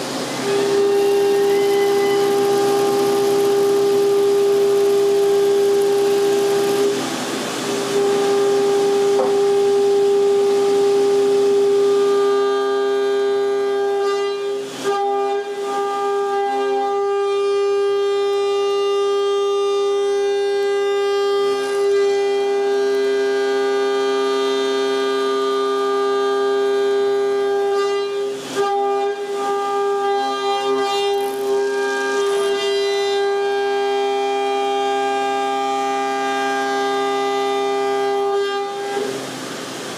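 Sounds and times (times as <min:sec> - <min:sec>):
milling cutter whine: 0:00.0 - 0:39.9.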